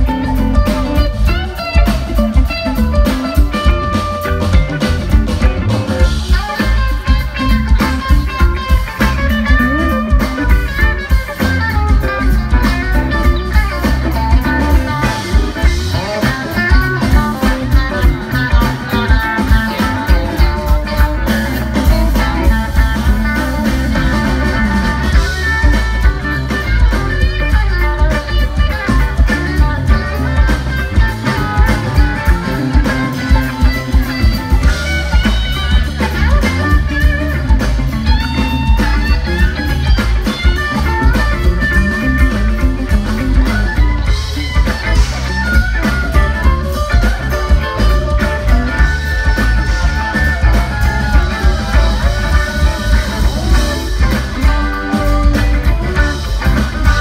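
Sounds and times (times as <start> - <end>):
electric guitar: 0.0 - 57.0
funk band playing: 0.0 - 57.0.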